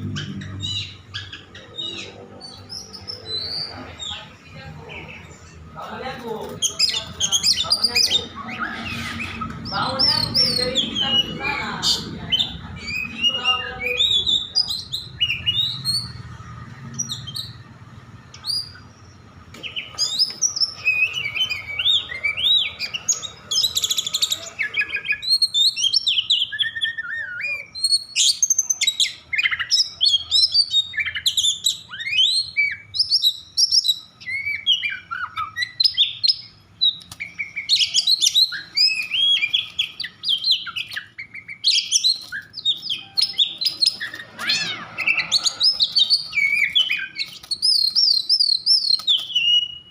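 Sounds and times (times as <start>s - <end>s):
bird singing sharp chirps and trills: 0.0s - 49.9s.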